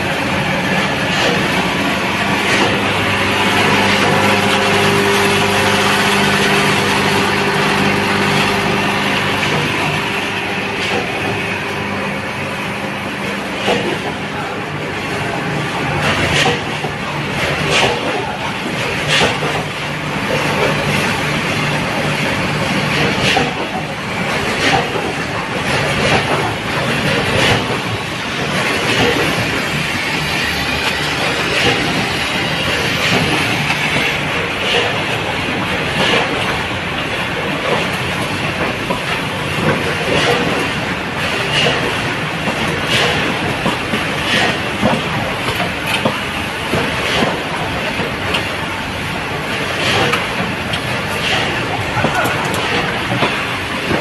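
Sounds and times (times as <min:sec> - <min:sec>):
production line machine drone: 0:00.0 - 0:54.0.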